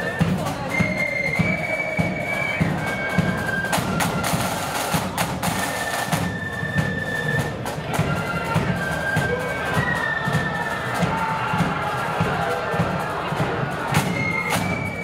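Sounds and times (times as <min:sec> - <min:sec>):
flute melody: 0:00.0 - 0:15.0
side drums: 0:00.0 - 0:15.0.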